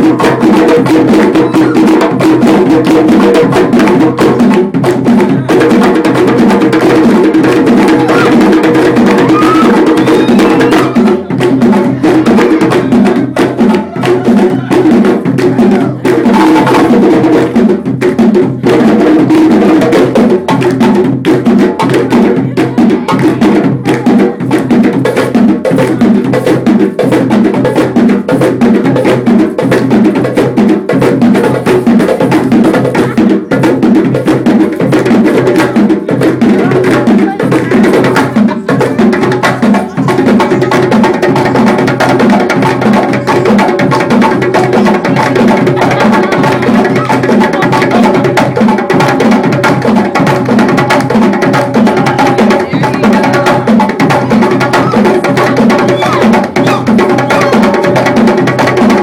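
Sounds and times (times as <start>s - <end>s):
hand drumming: 0.0s - 59.0s.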